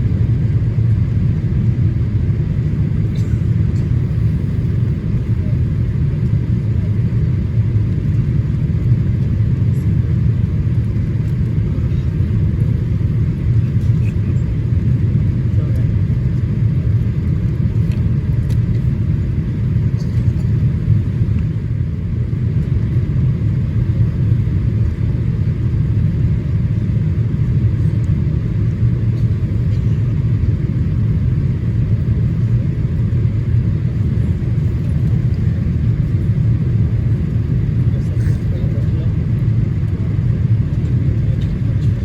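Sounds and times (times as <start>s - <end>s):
aircraft engine rumble: 0.0s - 42.0s
airflow noise in cabin: 0.0s - 42.0s.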